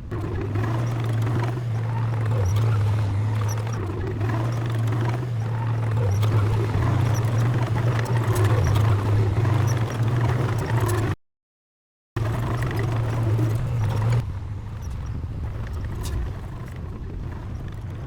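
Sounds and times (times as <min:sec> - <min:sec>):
heavy diesel machine engine drone: 0:00.0 - 0:11.2, 0:12.2 - 0:18.0.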